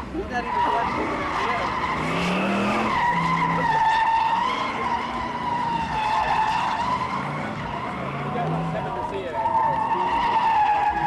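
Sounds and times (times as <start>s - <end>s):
car tyres squealing: 0.0s - 11.0s.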